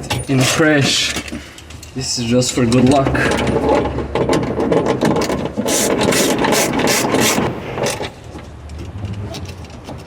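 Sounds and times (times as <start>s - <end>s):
metal hardware rubbing and scraping: 0.0s - 8.2s.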